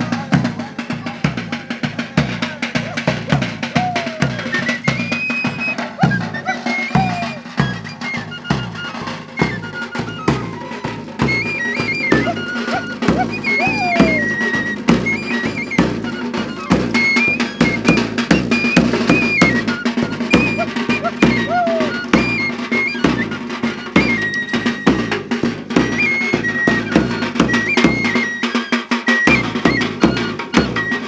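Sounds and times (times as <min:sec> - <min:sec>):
drum beating steadily: 0:00.0 - 0:31.0
high flute melody: 0:02.7 - 0:31.0.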